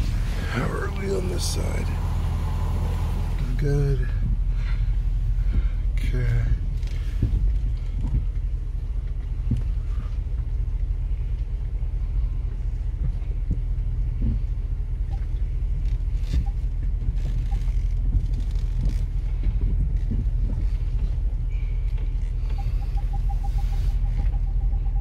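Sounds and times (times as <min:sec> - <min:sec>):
low cabin rumble: 0:00.0 - 0:25.0.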